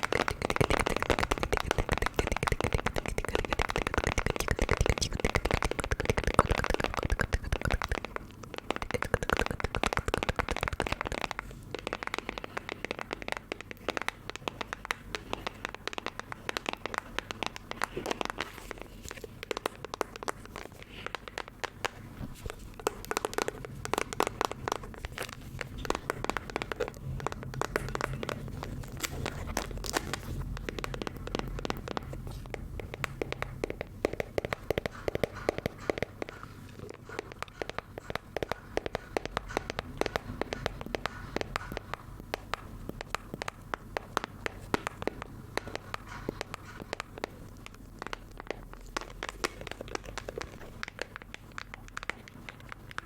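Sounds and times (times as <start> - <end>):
object crinkling and crackling: 0.0 - 53.0.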